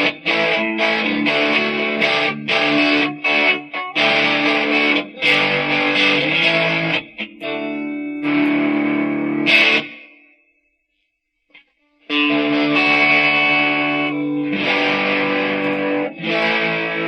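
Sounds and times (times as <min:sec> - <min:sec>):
distorted electric guitar: 0:00.0 - 0:10.3, 0:11.5 - 0:17.0.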